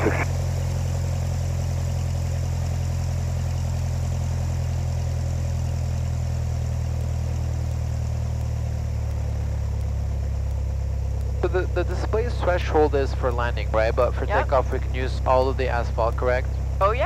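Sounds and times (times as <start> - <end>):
small plane engine droning in cabin: 0.0 - 17.0.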